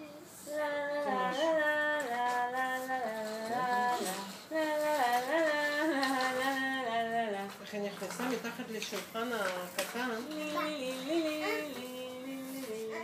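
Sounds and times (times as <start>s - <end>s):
person singing a simple tune: 0.0s - 7.6s, 9.9s - 13.0s.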